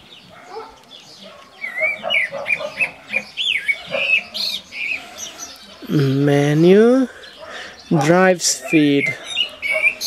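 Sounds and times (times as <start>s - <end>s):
bird singing chirping notes: 0.0s - 10.0s.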